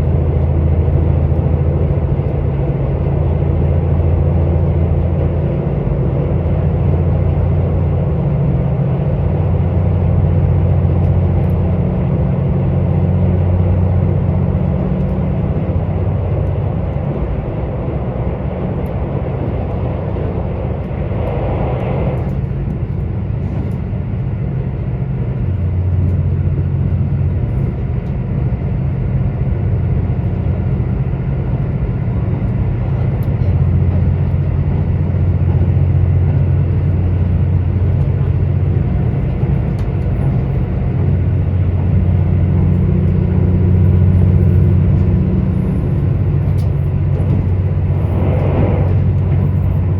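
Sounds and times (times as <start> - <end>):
diesel engine drone: 0.0 - 49.9.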